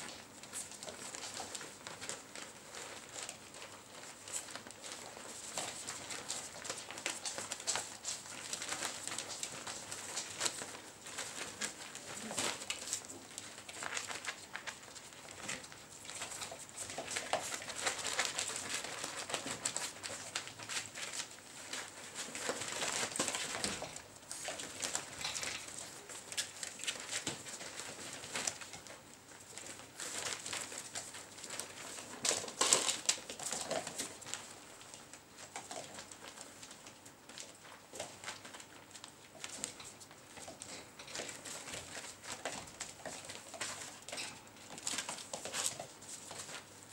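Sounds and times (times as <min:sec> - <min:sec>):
paws scrabbling on floor: 0:00.0 - 0:46.9
plastic sheet crinkling: 0:00.0 - 0:46.9.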